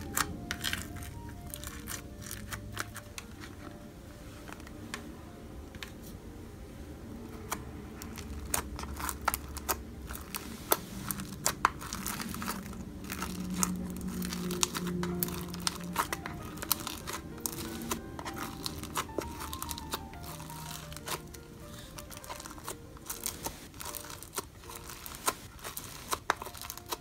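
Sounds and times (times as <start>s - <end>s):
slime clicking and crackling: 0.0s - 3.8s, 7.3s - 27.0s
soft background music: 0.0s - 27.0s.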